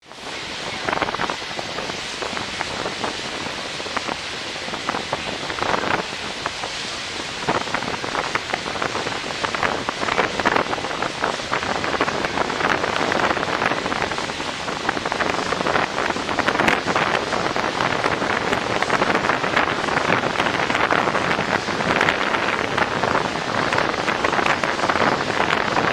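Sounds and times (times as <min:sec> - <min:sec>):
rush of harbour water: 0:00.0 - 0:25.9
wind buffeting microphone: 0:00.0 - 0:25.9.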